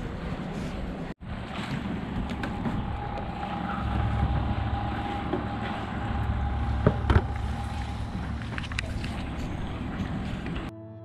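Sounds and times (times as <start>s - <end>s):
low wind rumble: 0.0s - 10.7s
water noise: 0.0s - 10.7s.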